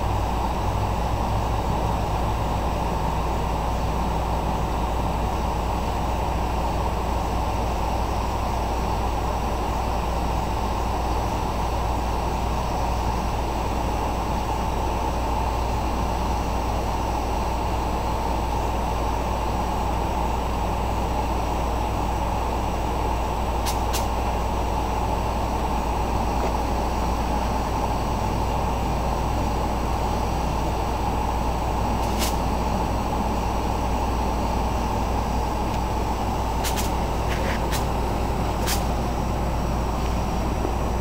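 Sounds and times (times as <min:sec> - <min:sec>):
propane burner rushing: 0:04.6 - 0:41.0.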